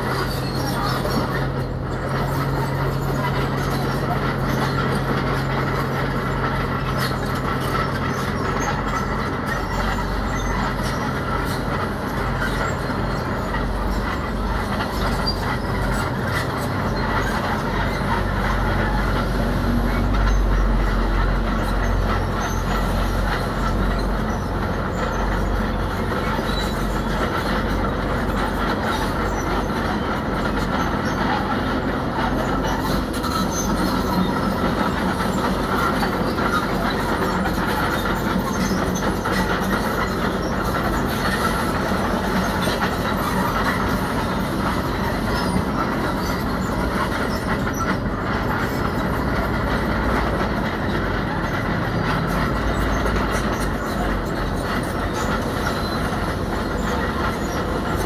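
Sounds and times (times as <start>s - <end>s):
diesel engines under load: 0.0s - 58.0s
steel tracks clattering: 0.0s - 58.0s.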